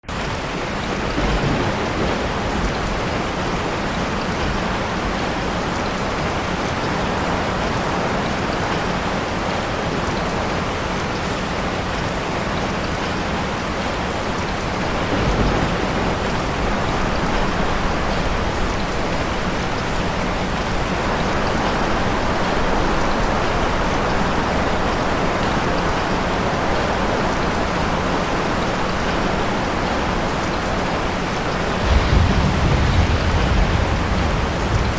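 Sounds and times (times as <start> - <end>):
rain falling: 0.0 - 34.9
thunder rumbles: 0.9 - 34.9.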